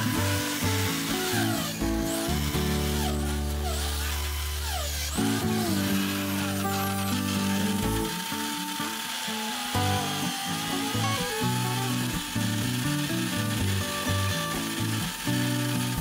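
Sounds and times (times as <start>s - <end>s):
drill press motor whine: 0.0s - 16.0s.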